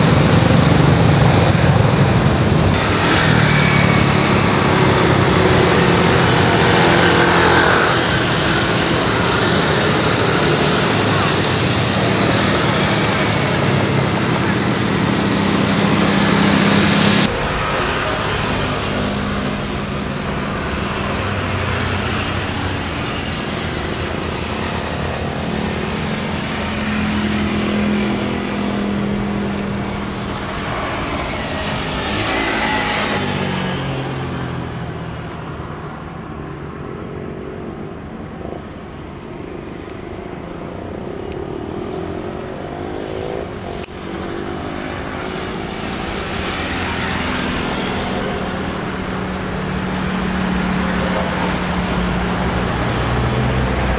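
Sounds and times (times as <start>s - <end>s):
jet engines landing: 0.0s - 53.9s.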